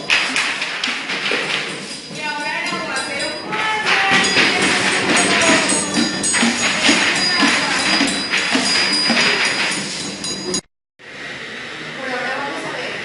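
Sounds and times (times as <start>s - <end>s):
high ringing tones: 0.0s - 10.7s
jingling percussion: 0.0s - 10.7s.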